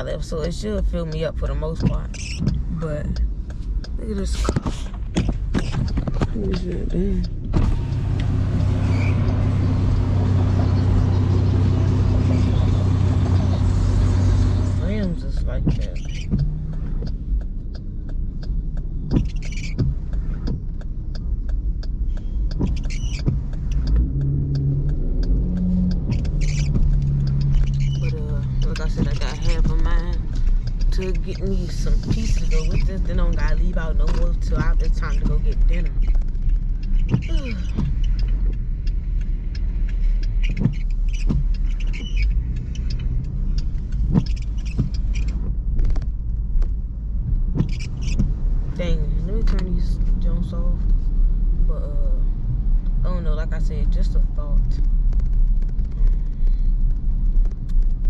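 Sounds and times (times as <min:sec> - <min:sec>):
car engine and road rumble: 0:00.0 - 0:58.0
light clicks: 0:00.4 - 0:46.9.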